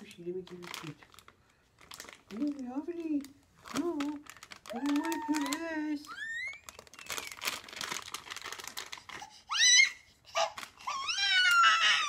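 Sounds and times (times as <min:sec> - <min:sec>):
plastic pouch crinkling: 0:00.0 - 0:09.7, 0:10.4 - 0:12.0.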